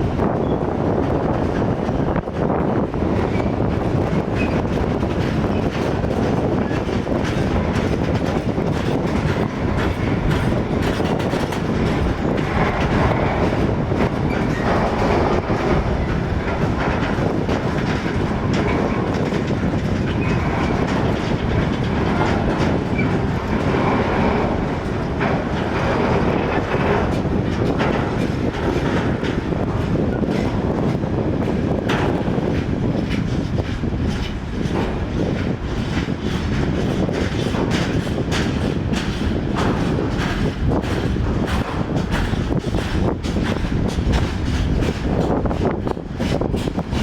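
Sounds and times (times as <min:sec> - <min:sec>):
train wheels clattering over rails: 0:00.0 - 0:47.0.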